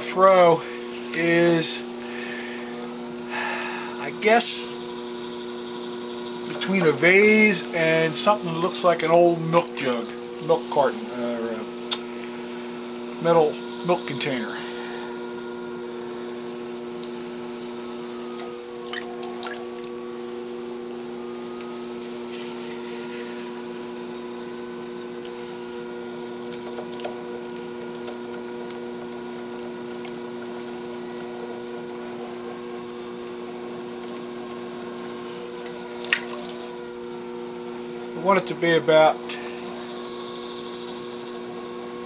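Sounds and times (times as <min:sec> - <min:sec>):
potter's wheel humming: 0:00.0 - 0:42.0.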